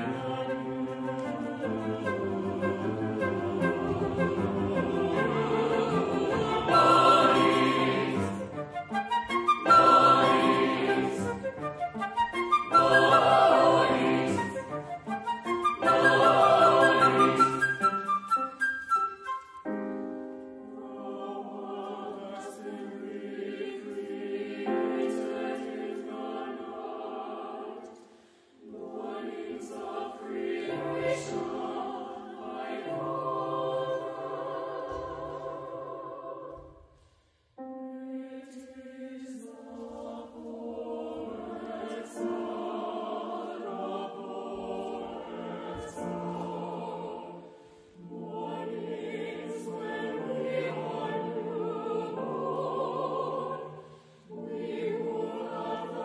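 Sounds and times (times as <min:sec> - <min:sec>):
mixed choir singing: 0:00.0 - 0:18.2, 0:20.6 - 0:37.0, 0:37.6 - 0:56.0.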